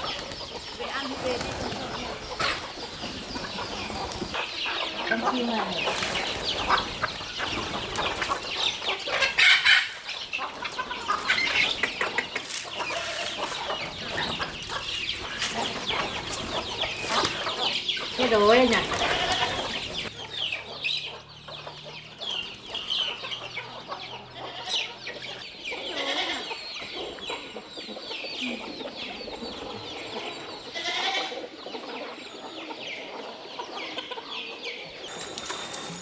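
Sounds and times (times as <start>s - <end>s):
poultry chirping: 0.0s - 36.0s.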